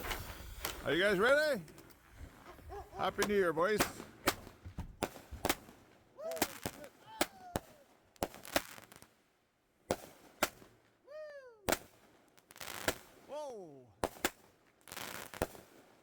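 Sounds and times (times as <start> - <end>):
fireworks bangs: 0.0 - 9.2, 9.9 - 10.8, 11.7 - 13.3, 14.0 - 16.0.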